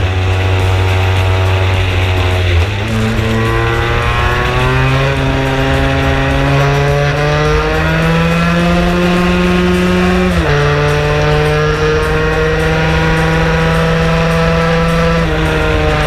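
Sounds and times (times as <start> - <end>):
scooter engine revving high: 0.0 - 16.0.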